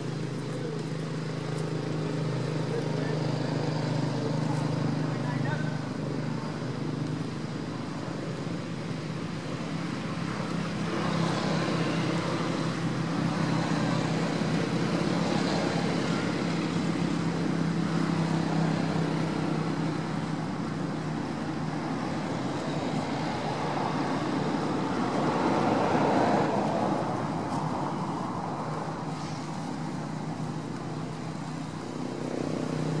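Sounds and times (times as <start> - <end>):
traffic hum: 0.0 - 33.0.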